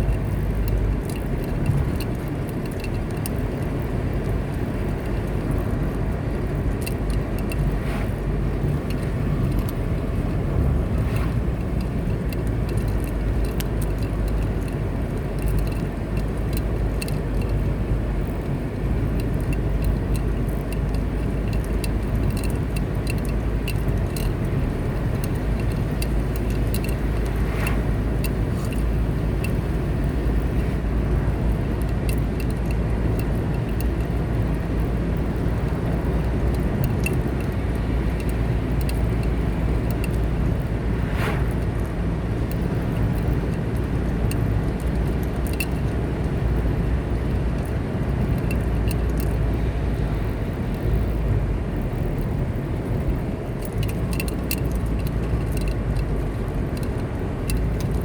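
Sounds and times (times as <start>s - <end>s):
light ticks: 0.0s - 58.0s
tyre and engine rumble: 0.0s - 58.0s.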